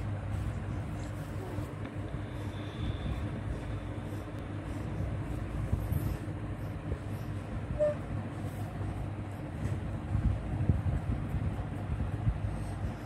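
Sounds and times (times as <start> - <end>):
low hum and rumble: 0.0 - 13.0.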